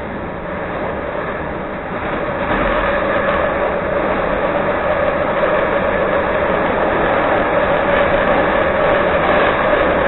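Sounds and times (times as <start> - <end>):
steady hum: 0.0 - 10.0
train wheels on rails: 0.0 - 10.0.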